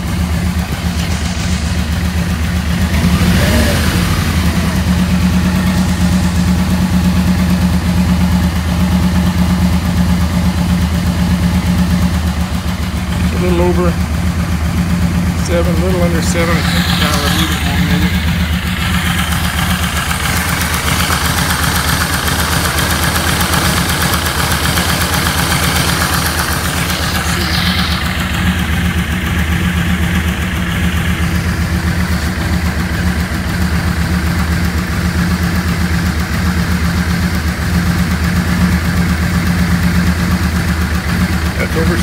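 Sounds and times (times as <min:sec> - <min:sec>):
motorcycle engine idling: 0:00.0 - 0:42.0.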